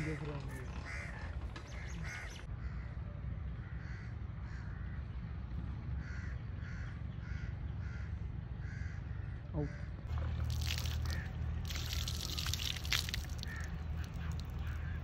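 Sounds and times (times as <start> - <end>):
crows cawing: 0.0 - 3.0, 3.6 - 5.0, 6.0 - 15.0.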